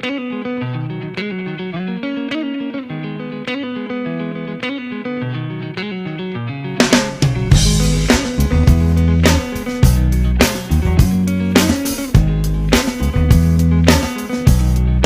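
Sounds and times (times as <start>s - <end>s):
instrumental guitar music: 0.0s - 15.0s.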